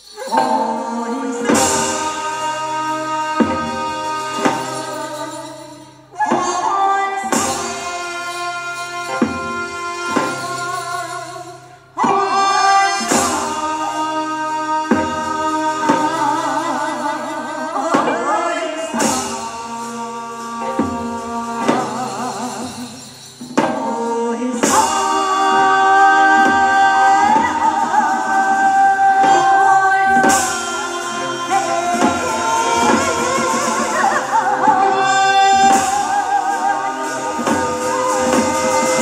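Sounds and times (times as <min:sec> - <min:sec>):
instrumental accompaniment: 0:00.0 - 0:39.0
person singing wavering notes: 0:00.0 - 0:39.0.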